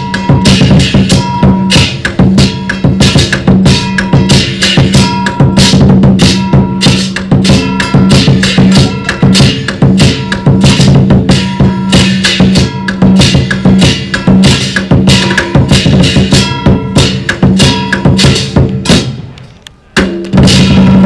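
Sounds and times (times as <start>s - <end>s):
cymbal hits: 0.0s - 19.3s, 20.0s - 21.0s
drum strikes: 0.0s - 19.4s, 20.0s - 21.0s.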